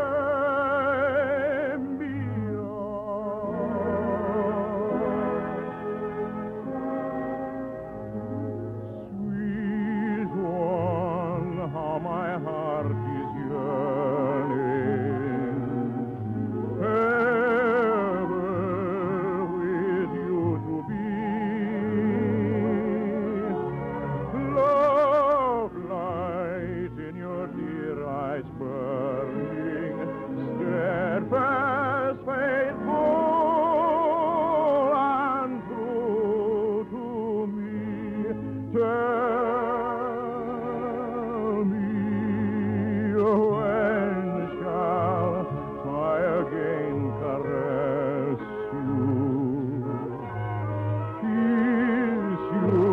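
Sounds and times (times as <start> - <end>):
operetta singing with vibrato: 0.0 - 52.9
orchestra playing: 0.1 - 52.9.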